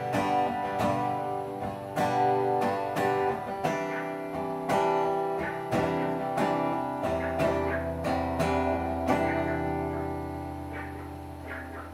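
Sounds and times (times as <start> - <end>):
acoustic guitar strumming: 0.0 - 11.9.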